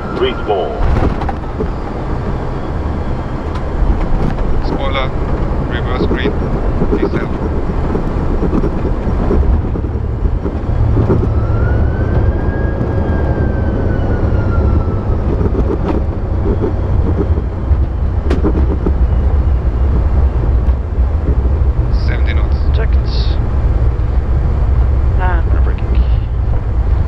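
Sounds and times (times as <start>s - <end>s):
low rumble of engines and wheels: 0.0s - 27.0s
rising and falling whine: 0.0s - 27.0s.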